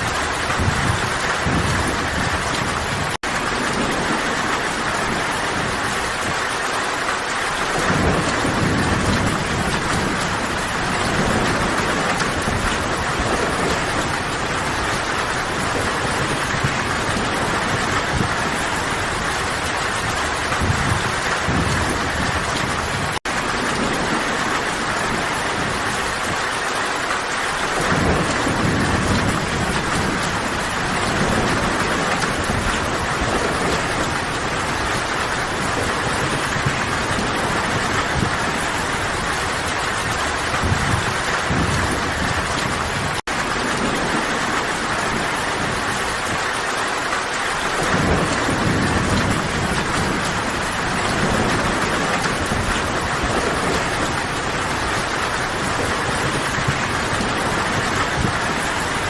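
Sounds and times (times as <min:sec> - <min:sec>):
distant thunder rumbles: 0:00.0 - 0:59.0
heavy rain hissing: 0:00.0 - 0:59.0.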